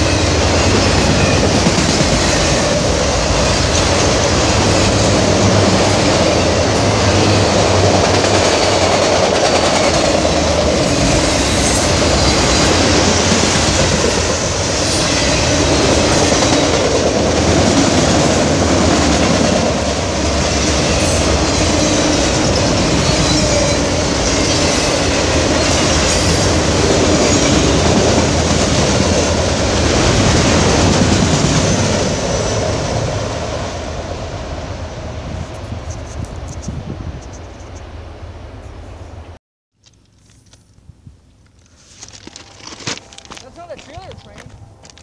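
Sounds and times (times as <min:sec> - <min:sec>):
train rumbling on rails: 0:00.0 - 0:39.4.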